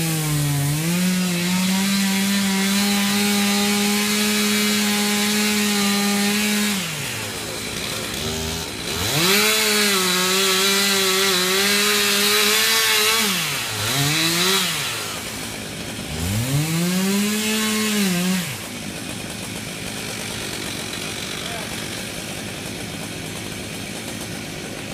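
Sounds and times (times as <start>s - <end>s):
chainsaw revving cutting wood: 0.0s - 24.9s.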